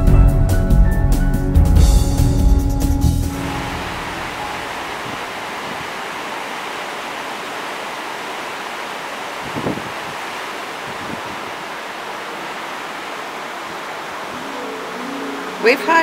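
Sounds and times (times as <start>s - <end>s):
steady rushing noise: 3.1s - 16.0s.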